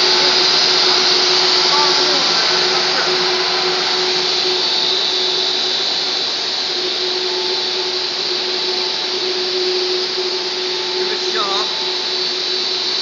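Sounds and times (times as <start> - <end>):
high even tone: 0.0 - 12.8
constant hum: 0.0 - 13.0
machine hiss: 0.0 - 13.0.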